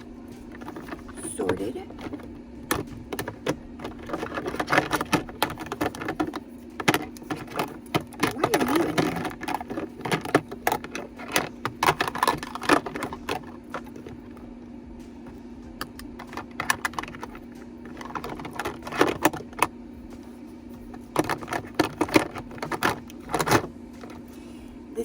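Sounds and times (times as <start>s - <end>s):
plastic containers clicking: 0.0s - 14.4s, 15.2s - 20.3s, 21.0s - 24.3s.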